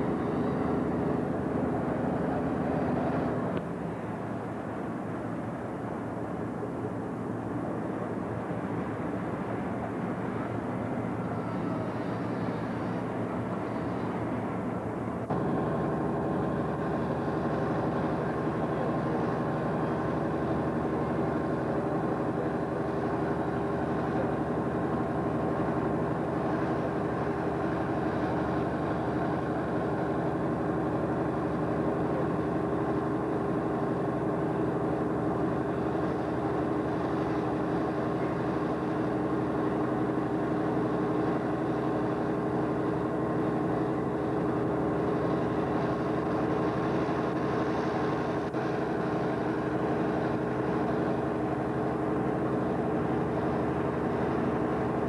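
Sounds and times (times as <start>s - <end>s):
crane engine droning: 0.0s - 55.0s.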